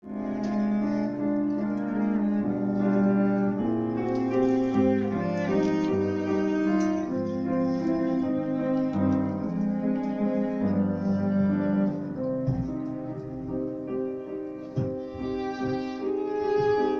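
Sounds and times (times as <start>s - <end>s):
violin playing: 0.0s - 13.7s, 14.7s - 16.9s
bowed cello notes: 0.0s - 13.8s, 14.7s - 16.9s
piano chords: 0.0s - 16.9s.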